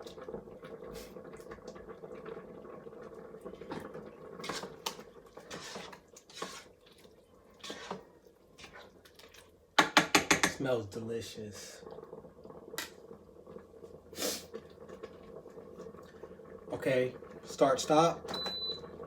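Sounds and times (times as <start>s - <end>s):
curry sauce bubbling in a pot: 0.0s - 19.0s.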